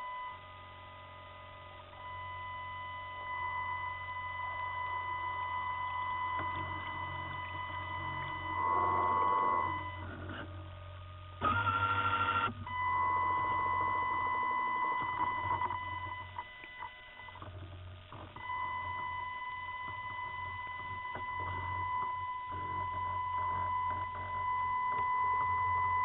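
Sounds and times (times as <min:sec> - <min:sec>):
high electric motor whine: 0:00.0 - 0:26.0.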